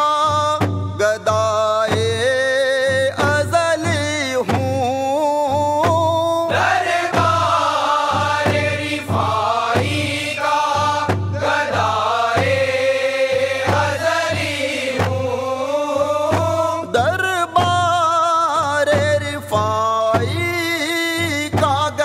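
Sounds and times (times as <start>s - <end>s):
frame drums beating: 0.0s - 22.0s
men singing devotional song: 0.0s - 22.0s.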